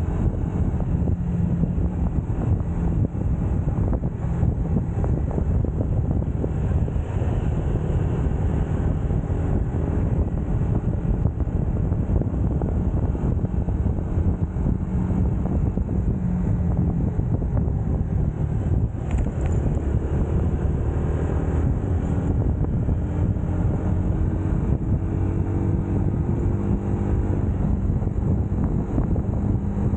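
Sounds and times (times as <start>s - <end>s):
motorcycle engine running: 0.0s - 29.9s
wind buffeting microphone: 0.0s - 29.9s.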